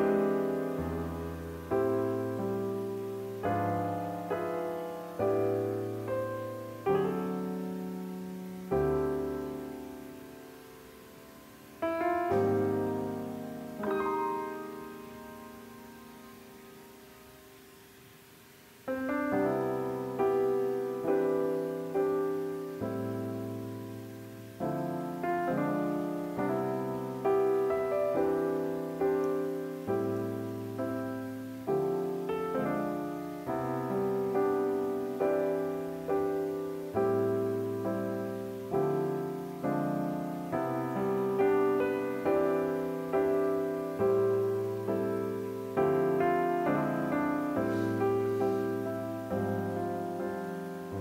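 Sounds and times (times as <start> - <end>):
gentle solo piano: 0.0 - 51.0.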